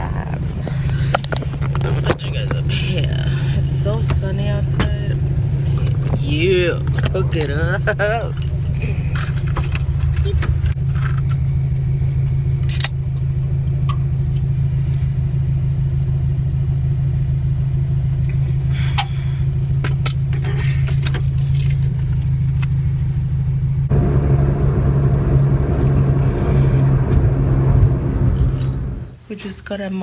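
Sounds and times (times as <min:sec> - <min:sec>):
car engine and road hum: 0:00.0 - 0:29.3.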